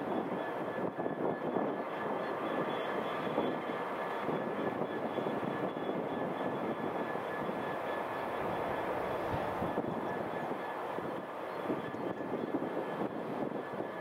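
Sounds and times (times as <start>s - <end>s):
diesel locomotive engine drone: 0.0s - 14.0s.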